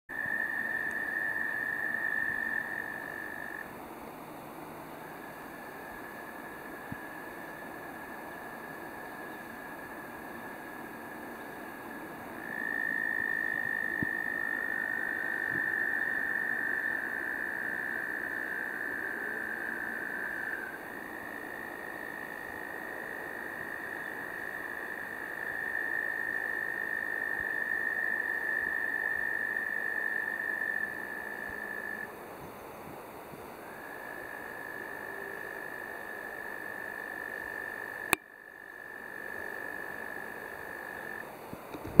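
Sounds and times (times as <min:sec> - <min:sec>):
frogs trilling: 0:00.1 - 0:03.8, 0:05.0 - 0:32.7, 0:33.5 - 0:42.0.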